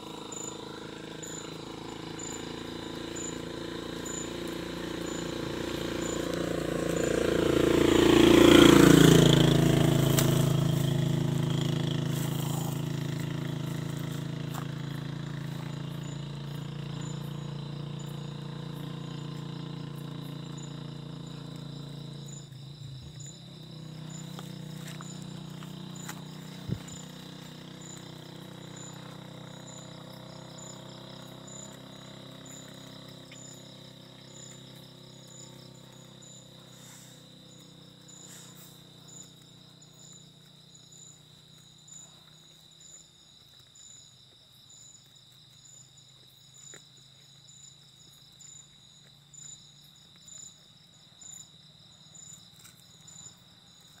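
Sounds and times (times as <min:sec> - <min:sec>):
insects trilling: 0:00.0 - 0:54.0
pulsing insect chirp: 0:00.0 - 0:54.0.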